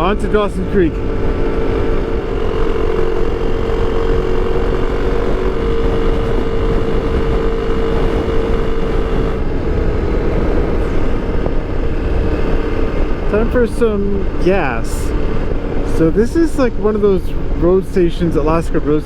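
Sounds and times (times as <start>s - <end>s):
motorcycle engine humming: 0.0s - 19.0s
road rush: 0.0s - 19.0s
wind noise: 0.0s - 19.0s.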